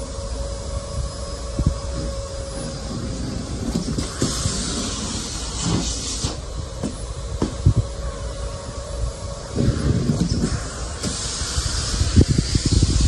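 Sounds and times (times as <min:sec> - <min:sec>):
rush of air in nozzle: 0:00.0 - 0:13.0
vacuum cleaner motor whine: 0:00.0 - 0:13.0.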